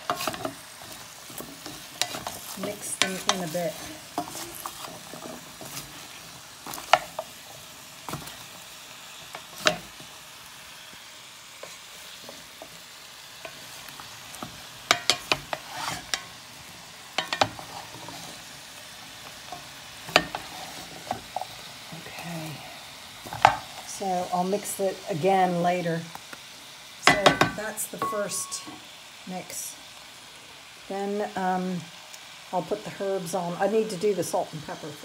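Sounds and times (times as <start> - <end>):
meat sizzling in pot: 0.0 - 35.0.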